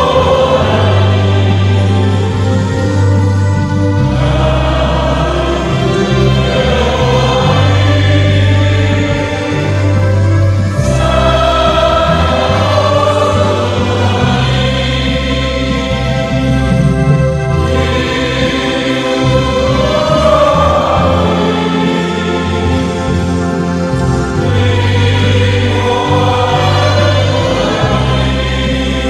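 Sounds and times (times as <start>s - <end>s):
church band playing a slow hymn: 0.0s - 29.0s
steady bass line: 0.0s - 29.0s
voices singing: 0.0s - 29.0s.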